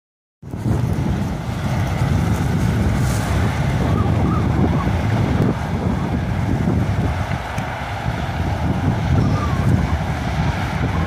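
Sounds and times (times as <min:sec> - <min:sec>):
wind buffeting microphone: 0:00.4 - 0:11.0.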